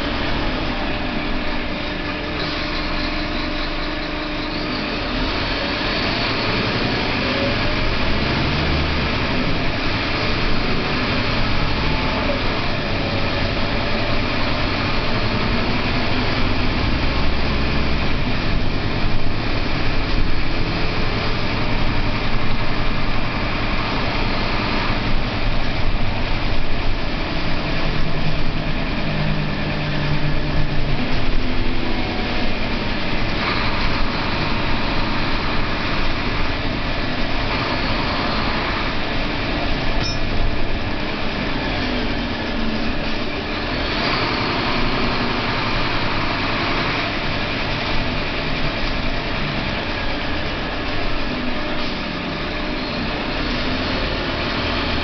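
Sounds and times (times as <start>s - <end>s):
bus diesel engine: 0.0s - 55.0s
road noise: 0.0s - 55.0s.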